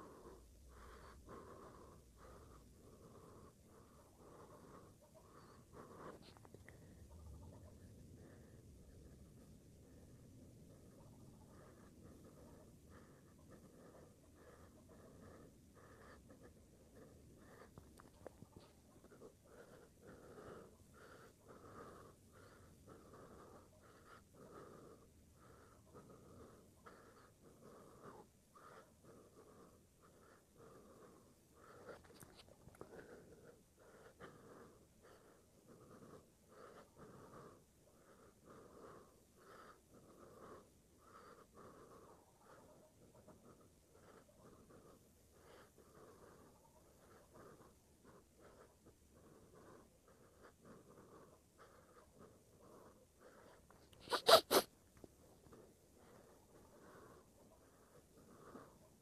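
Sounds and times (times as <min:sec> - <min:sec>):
soft pulsing hiss: 0:00.0 - 0:59.0.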